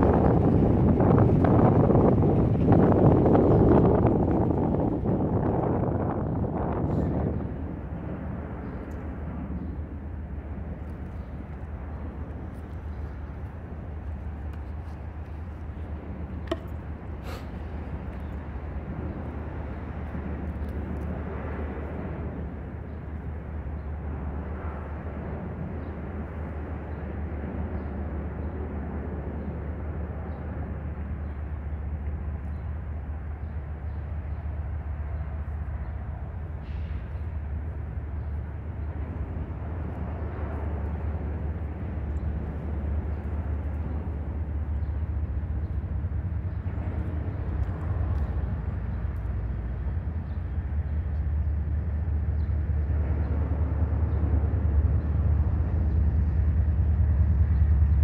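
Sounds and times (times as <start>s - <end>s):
freight train locomotives rumbling: 0.0s - 58.0s.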